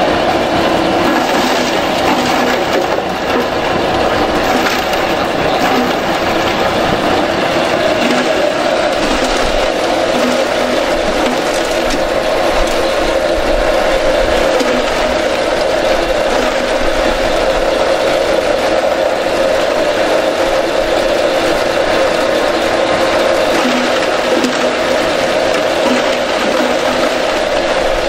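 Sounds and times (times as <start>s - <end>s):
grass chopper mechanical hum: 0.0s - 28.0s.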